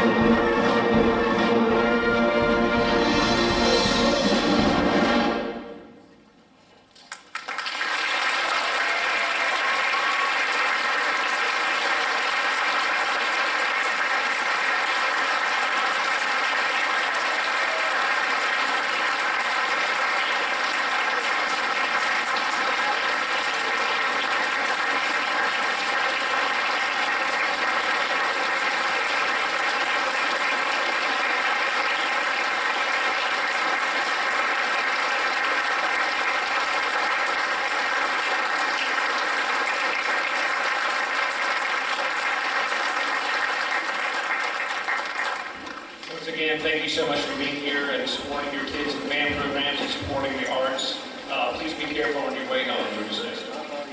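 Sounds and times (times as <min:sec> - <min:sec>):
audience applause: 0:07.0 - 0:53.9.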